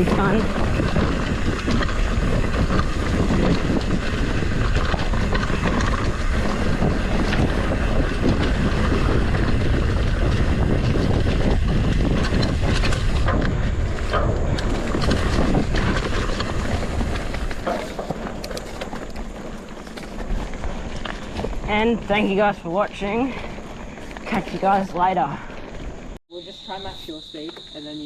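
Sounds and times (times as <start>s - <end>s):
bike knocking and rattling: 0.0s - 26.2s
bike tyres rumbling on rocks: 0.0s - 26.2s
wind rushing over microphone: 0.0s - 26.2s.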